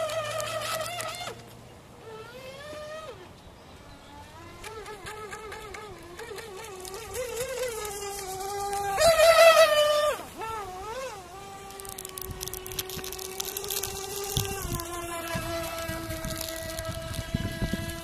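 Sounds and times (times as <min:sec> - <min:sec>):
electric boat motor whining: 0:00.0 - 0:18.0.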